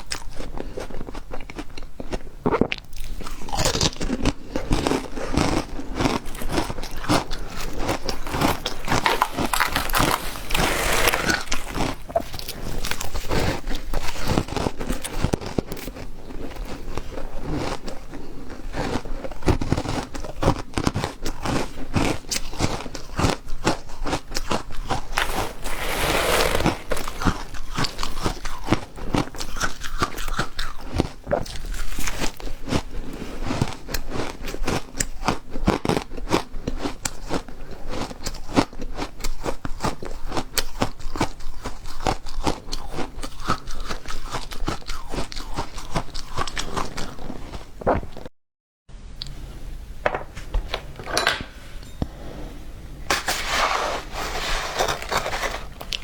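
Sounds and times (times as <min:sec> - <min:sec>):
ice being chewed: 0:00.0 - 0:48.3, 0:54.2 - 0:56.0.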